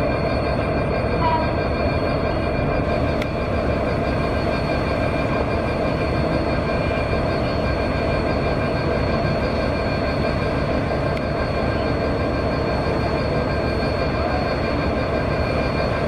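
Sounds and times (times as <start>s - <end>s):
train engine and wheels rumbling: 0.0s - 16.0s.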